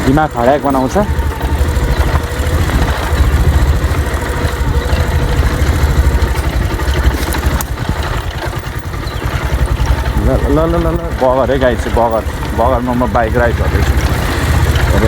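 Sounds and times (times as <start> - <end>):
motorcycle engine chugging: 0.0 - 15.0.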